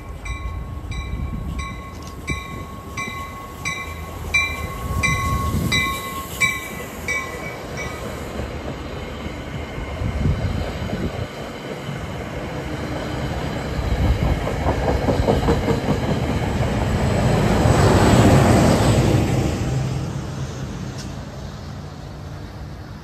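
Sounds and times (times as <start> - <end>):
train wheels rumbling and clacking: 0.0 - 21.8.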